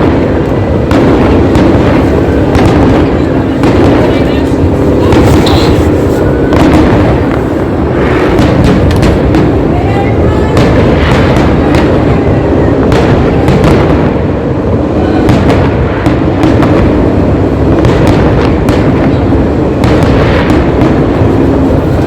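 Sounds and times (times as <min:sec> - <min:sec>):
fireworks bangs and bursts: 0:00.0 - 0:22.0
low rumble: 0:00.0 - 0:22.0.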